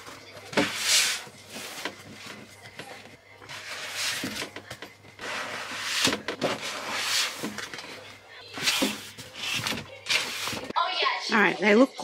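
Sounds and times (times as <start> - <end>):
plastic boxes rustling and scraping: 0.0 - 10.7.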